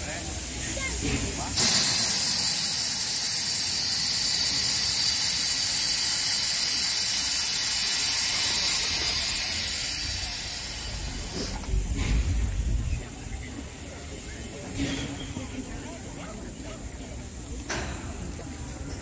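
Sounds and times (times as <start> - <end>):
steam hissing loudly: 0.0 - 19.0.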